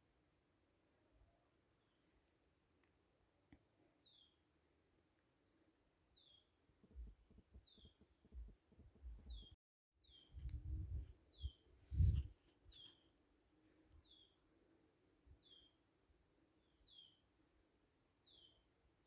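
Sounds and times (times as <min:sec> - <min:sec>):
small songbird calling: 0:03.4 - 0:18.7.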